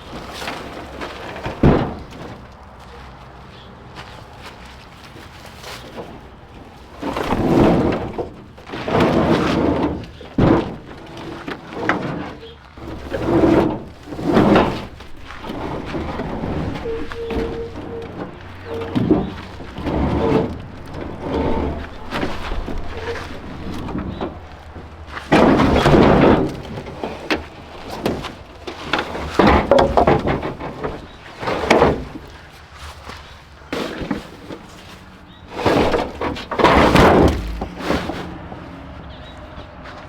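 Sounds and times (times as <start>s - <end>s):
knocks and clunks on truck body: 0.0s - 3.0s, 5.2s - 40.0s
metal scraping: 5.8s - 32.4s, 33.6s - 39.4s.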